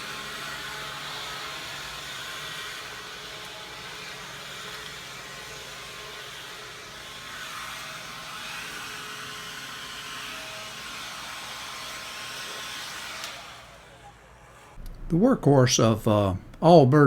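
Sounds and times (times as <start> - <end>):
electric leaf blower whooshing: 0.0 - 14.9.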